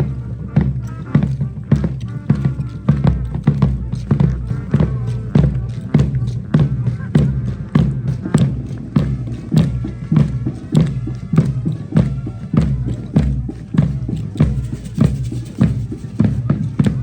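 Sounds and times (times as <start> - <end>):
bass drum beat: 0.0 - 17.0
live band music: 0.0 - 17.0
wind instruments holding notes: 0.0 - 17.0.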